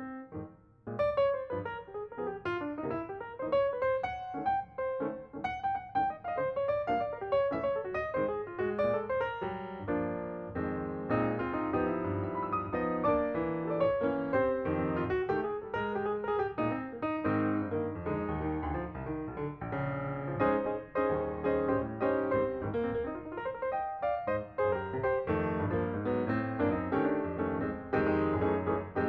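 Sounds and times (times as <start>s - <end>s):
lively piano music: 0.0s - 29.0s.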